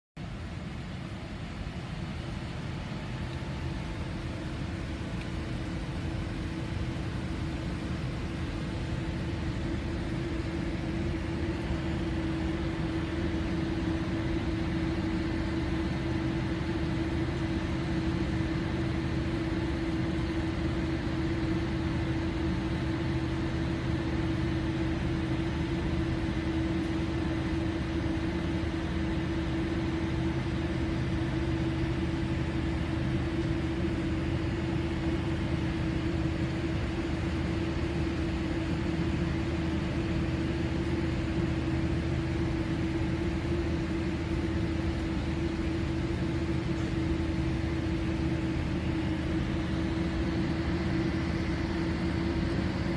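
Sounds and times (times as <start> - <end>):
jet engines idling: 0.2 - 52.9
low rumble and hiss: 0.2 - 52.9
steady humming tone: 0.2 - 52.9.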